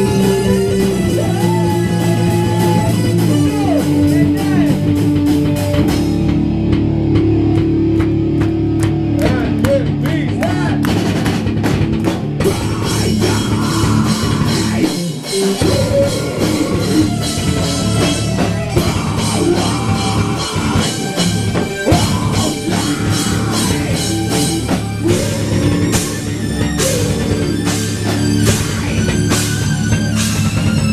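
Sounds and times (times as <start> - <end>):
drum kit: 0.0 - 30.9
electric guitar: 0.0 - 30.9
metal band playing live: 0.0 - 30.9.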